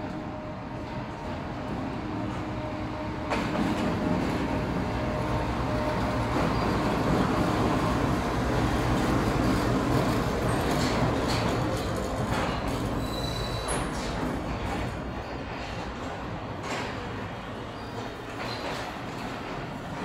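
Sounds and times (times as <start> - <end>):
diesel locomotive rumbling past: 0.0 - 18.2
train coaches rolling by: 0.0 - 20.0.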